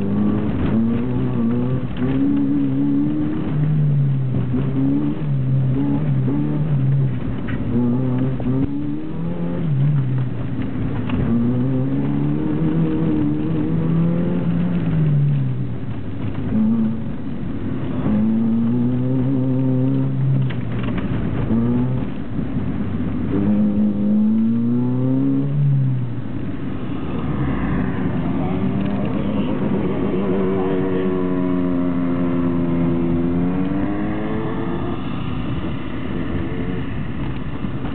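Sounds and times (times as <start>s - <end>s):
car engine revving: 0.0s - 37.9s
road and wind noise: 0.0s - 37.9s.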